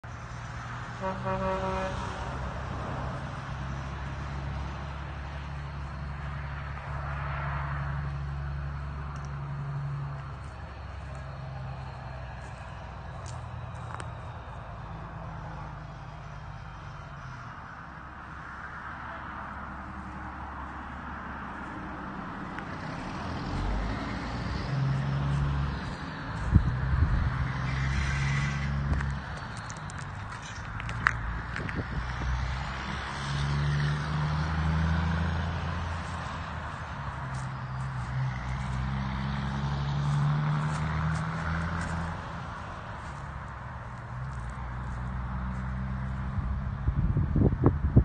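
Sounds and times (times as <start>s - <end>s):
diesel truck engine drone: 0.0s - 48.0s.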